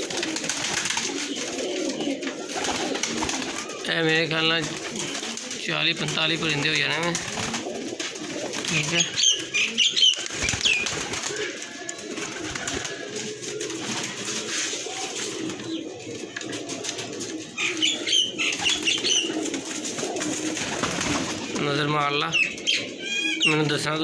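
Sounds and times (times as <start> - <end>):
pigeons cooing: 0.0 - 24.0
wings flapping: 0.0 - 24.0.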